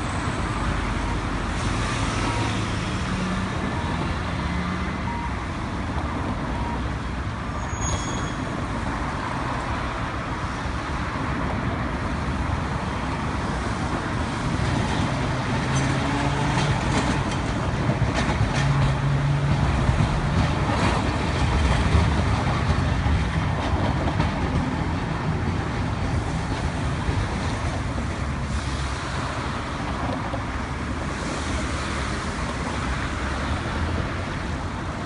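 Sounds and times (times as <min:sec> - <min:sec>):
street traffic: 0:00.0 - 0:35.0
streetcar running over tracks: 0:00.0 - 0:35.0.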